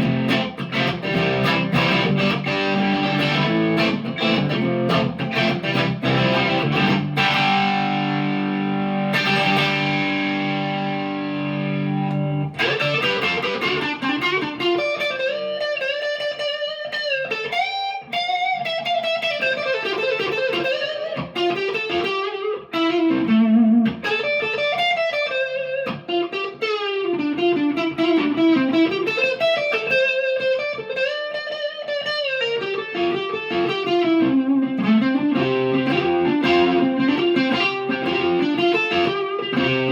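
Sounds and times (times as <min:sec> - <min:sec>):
electric guitar chord ringing: 0:00.0 - 0:39.9
electric guitar lead lines: 0:00.0 - 0:39.9.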